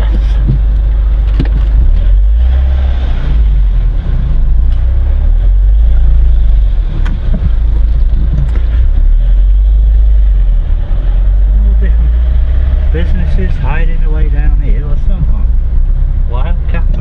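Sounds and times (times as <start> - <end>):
car engine rumble from inside: 0.0 - 17.0.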